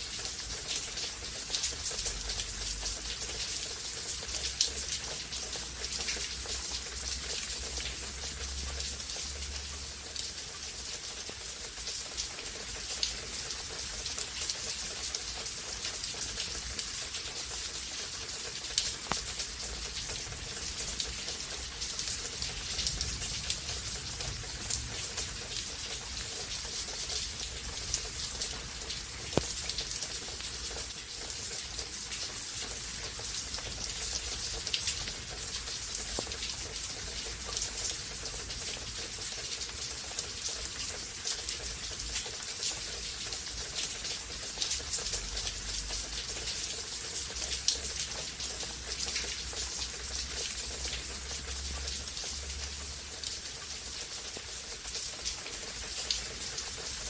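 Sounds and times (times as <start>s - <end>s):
raindrops pattering on surfaces: 0.0s - 57.0s
steady rain hiss: 0.0s - 57.0s.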